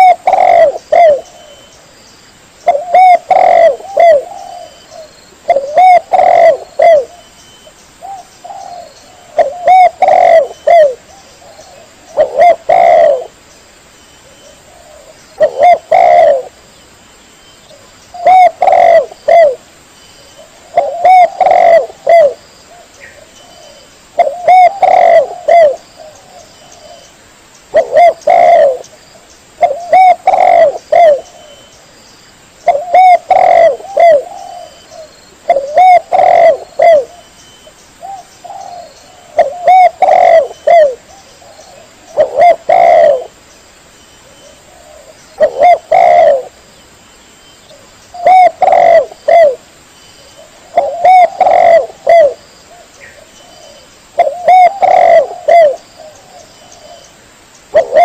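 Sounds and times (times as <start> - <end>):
dove cooing: 0.0 - 1.7, 2.6 - 13.4, 14.2 - 16.6, 17.7 - 19.6, 20.4 - 27.1, 27.7 - 28.9, 29.6 - 31.7, 32.6 - 37.3, 38.0 - 43.4, 44.2 - 46.6, 47.7 - 49.7, 50.3 - 57.1, 57.7 - 58.0.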